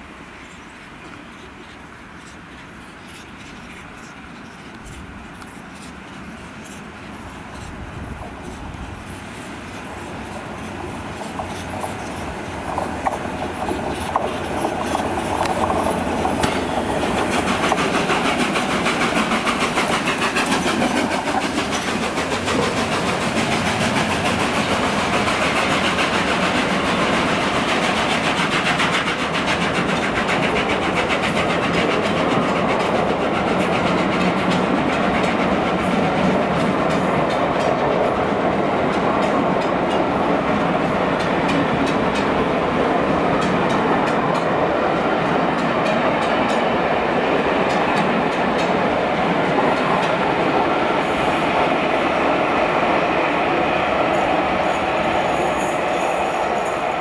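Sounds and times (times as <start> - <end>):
steam locomotive passing: 0.0 - 57.0
wheels clicking over rail joints: 1.1 - 57.0.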